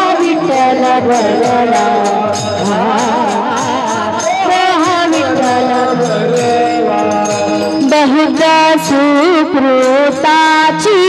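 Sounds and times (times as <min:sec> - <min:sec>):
person singing wordless line: 0:00.0 - 0:11.0.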